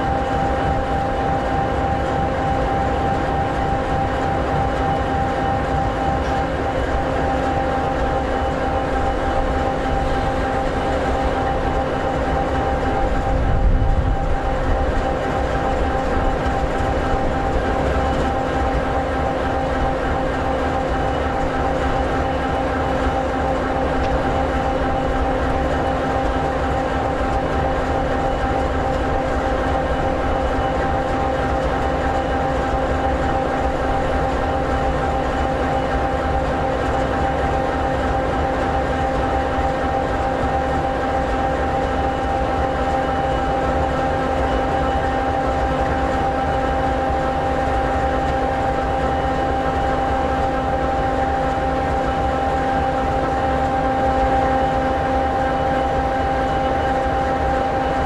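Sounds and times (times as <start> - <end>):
diesel locomotive engine idling: 0.0 - 54.4.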